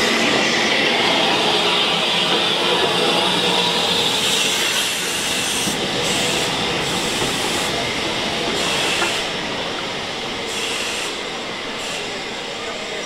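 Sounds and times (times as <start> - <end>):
steam hissing: 0.0 - 13.0
train coaches rolling past: 0.0 - 13.0.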